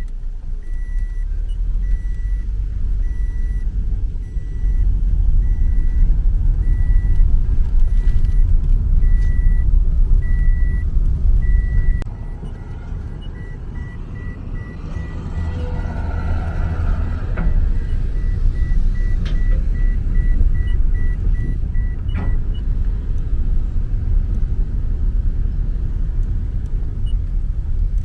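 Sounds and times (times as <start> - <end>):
dashboard warning chime beeping: 0.0 - 22.6
road and engine rumble: 0.0 - 28.0.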